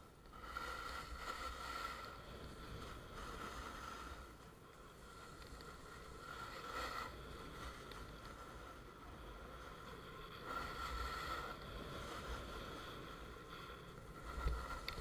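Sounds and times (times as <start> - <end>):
snowboard scraping over snow: 0.4 - 15.0.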